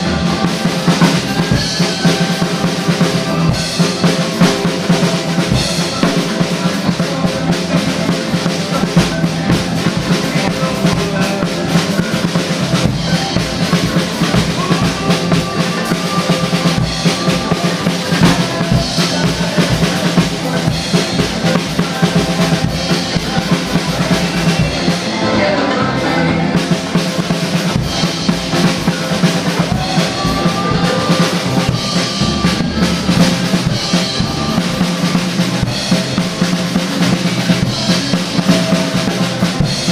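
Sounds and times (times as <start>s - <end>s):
backing song: 0.0s - 39.9s
drum kit playing rock groove: 0.0s - 39.9s.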